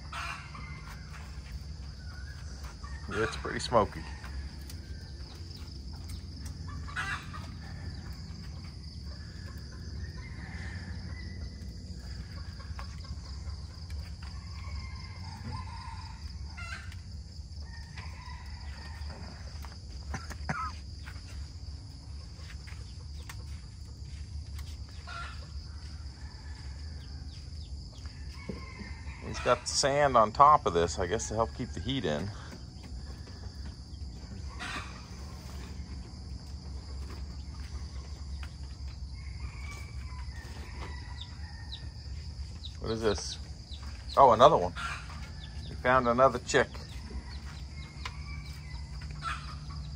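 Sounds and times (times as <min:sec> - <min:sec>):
chickens clucking: 0:00.0 - 0:49.9
high insect drone: 0:00.0 - 0:49.9.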